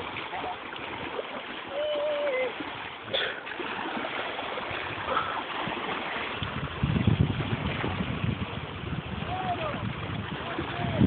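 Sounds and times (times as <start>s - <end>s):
water rushing and lapping: 0.0s - 11.0s.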